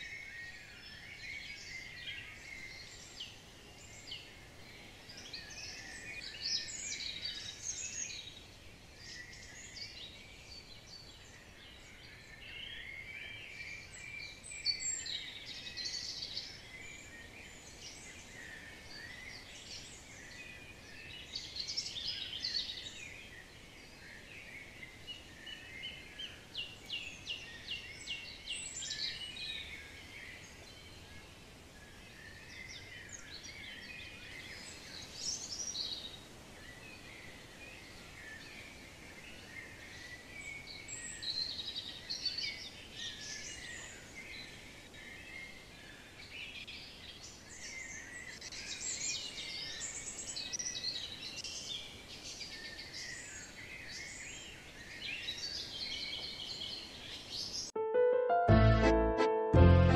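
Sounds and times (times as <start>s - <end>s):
songbirds singing and calling: 0.0s - 57.8s.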